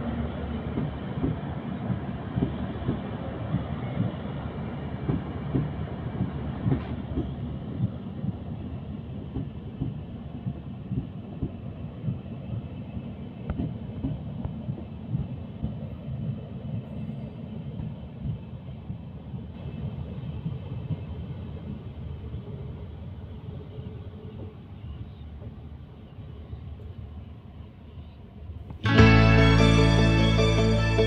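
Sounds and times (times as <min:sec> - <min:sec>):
train coaches rumbling on rails: 0:00.0 - 0:31.0.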